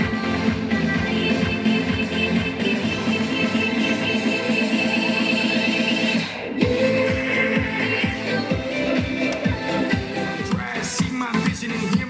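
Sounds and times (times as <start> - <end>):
bass kick drum: 0.0 - 5.8, 6.6 - 12.0
electronic dance-pop music: 0.0 - 12.0.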